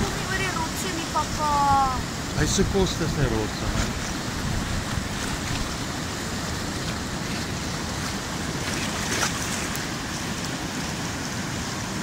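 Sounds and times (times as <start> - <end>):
sea surf washing over rocks: 0.0 - 12.0
water splash: 0.0 - 12.0.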